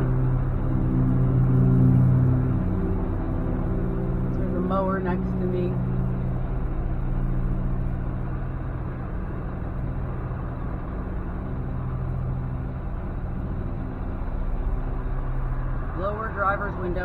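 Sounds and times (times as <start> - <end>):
truck diesel engine humming: 0.0 - 17.0.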